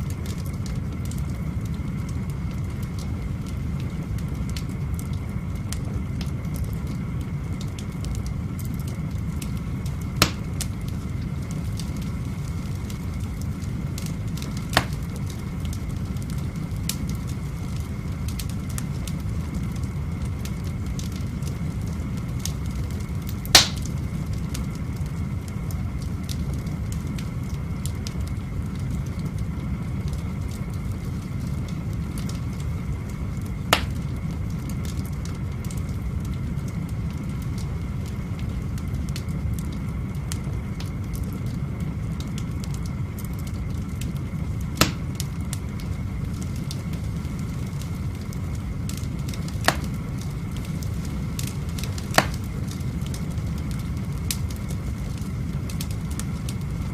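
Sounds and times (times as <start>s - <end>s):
fire crackling: 0.0s - 56.9s
sharp pops of fire: 0.0s - 56.9s
wood fire rumbling: 0.0s - 56.9s.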